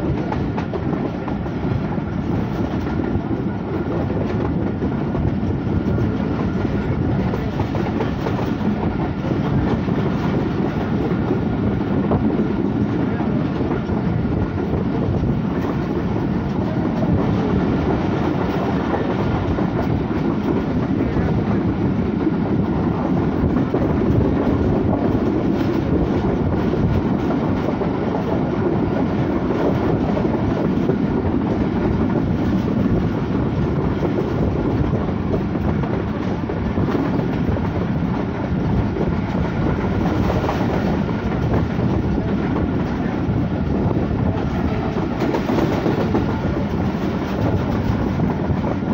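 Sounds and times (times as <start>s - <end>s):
rail joint clicks: 0.0s - 48.9s
train wheels rumbling on track: 0.0s - 48.9s.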